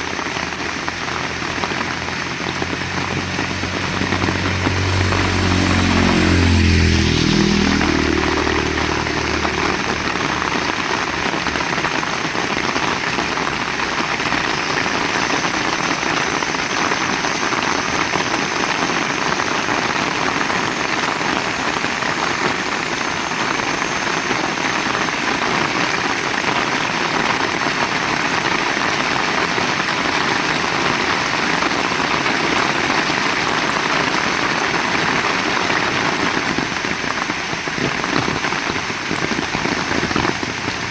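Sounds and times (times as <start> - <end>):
heavy rain: 0.0 - 40.9
vehicle engine passing: 0.1 - 26.6, 27.8 - 40.9.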